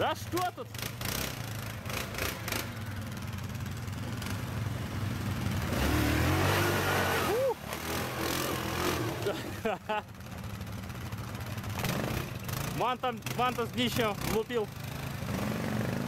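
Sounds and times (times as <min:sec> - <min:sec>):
atv engine revving in mud: 0:00.0 - 0:16.0.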